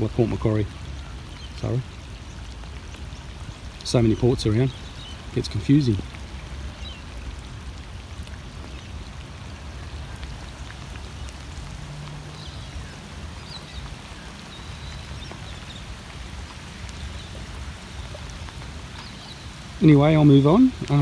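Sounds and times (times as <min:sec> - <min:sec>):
steady rain patter: 0:00.0 - 0:21.0.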